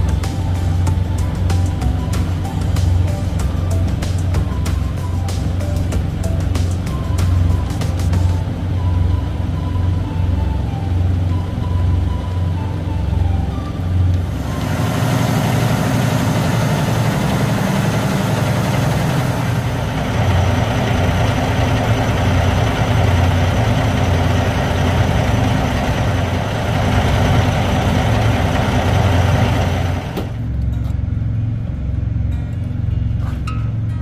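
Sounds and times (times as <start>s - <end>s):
diesel truck engine idling: 0.0s - 33.2s.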